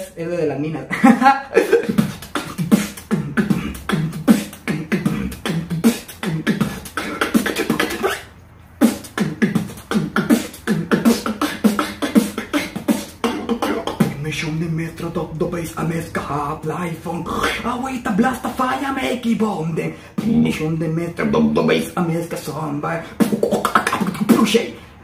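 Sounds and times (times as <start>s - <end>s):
person beatboxing into a microphone: 1.7s - 24.9s.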